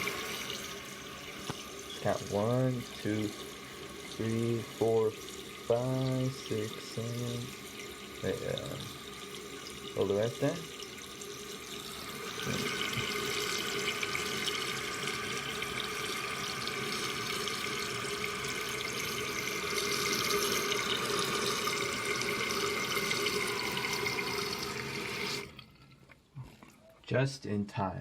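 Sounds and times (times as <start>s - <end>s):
toilet tank refilling: 0.0s - 27.2s.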